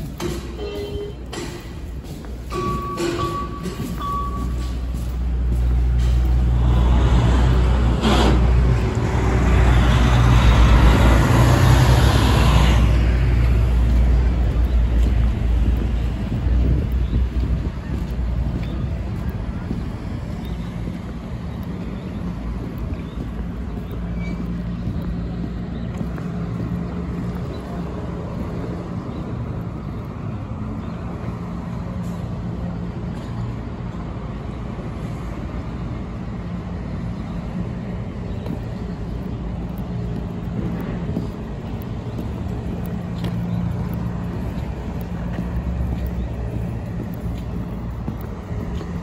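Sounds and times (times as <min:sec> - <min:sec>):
cars and trucks passing: 0:00.0 - 0:49.0
road noise rumble: 0:00.0 - 0:49.0
low engine hum: 0:03.8 - 0:49.0.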